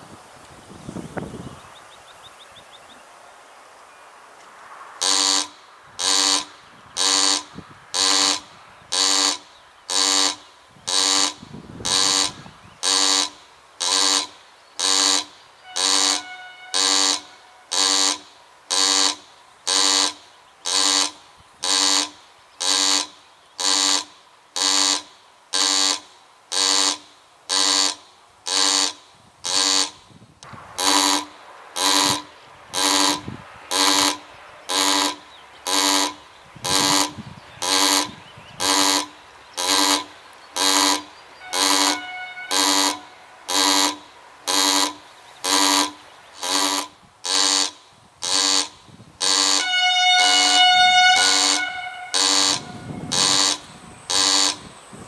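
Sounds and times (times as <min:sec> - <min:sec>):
level crossing warning buzzer: 0:05.0 - 0:25.0, 0:25.6 - 0:30.0, 0:30.8 - 0:54.8.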